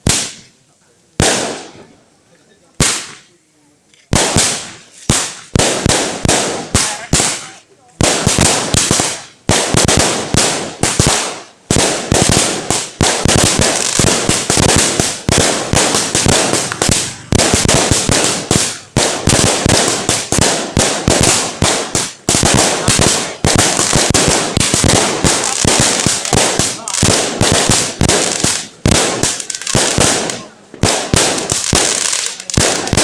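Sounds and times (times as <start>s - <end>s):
fireworks sharp bangs: 0.0s - 2.0s, 2.7s - 33.0s.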